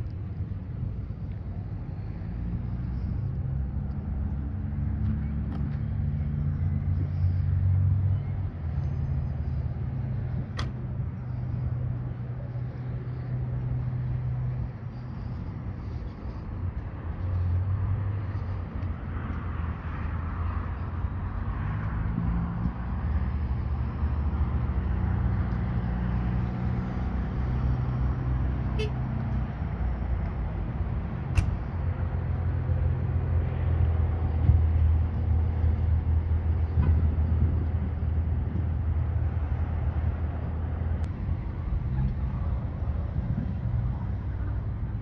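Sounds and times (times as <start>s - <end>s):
truck engines idling: 0.0s - 45.0s.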